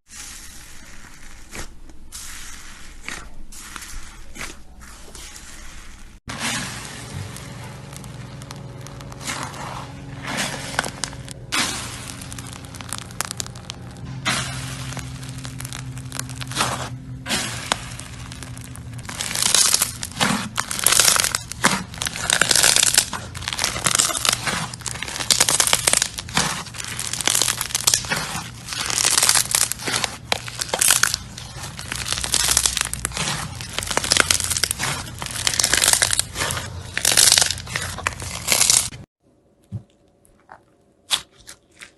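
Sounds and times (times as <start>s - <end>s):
slime squishing and crackling: 0.1s - 39.1s.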